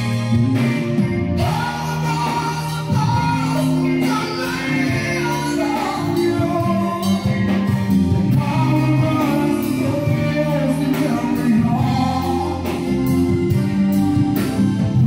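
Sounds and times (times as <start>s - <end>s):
person singing: 0.0s - 13.6s
bass guitar: 0.0s - 15.0s
drums with steady cymbal beat: 0.0s - 15.0s
electric guitars: 0.0s - 15.0s.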